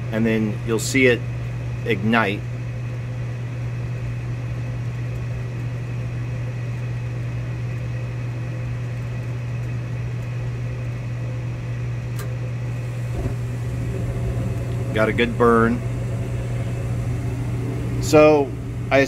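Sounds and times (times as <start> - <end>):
furnace motor humming: 0.0 - 19.0.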